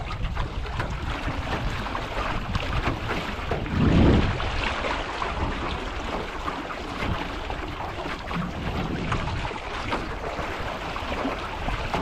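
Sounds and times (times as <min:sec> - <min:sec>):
water slapping against hull: 0:00.0 - 0:12.0
wind buffeting microphone: 0:00.0 - 0:12.0.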